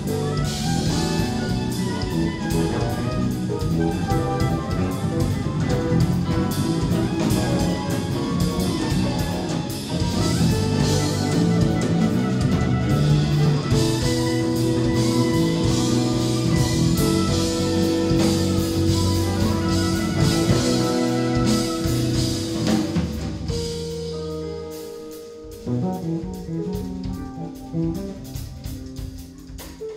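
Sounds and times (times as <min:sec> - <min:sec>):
jazz-rock fusion band playing: 0:00.0 - 0:29.9.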